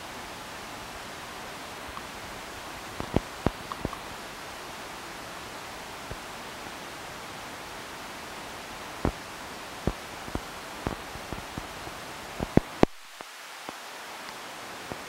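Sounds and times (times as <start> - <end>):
rain and wind hiss: 0.0 - 15.0
raindrops ticking close by: 0.0 - 15.0.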